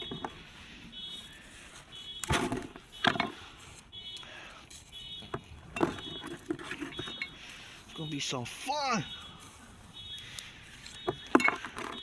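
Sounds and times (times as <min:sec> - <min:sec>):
dry twigs crackling and snapping: 0:00.0 - 0:12.0.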